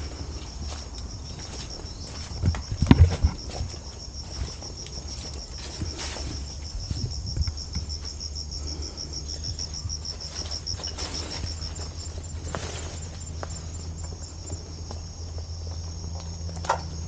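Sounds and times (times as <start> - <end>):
footsteps on debris: 0.0 - 8.3, 9.5 - 17.0
insect chirping trill: 0.0 - 17.0.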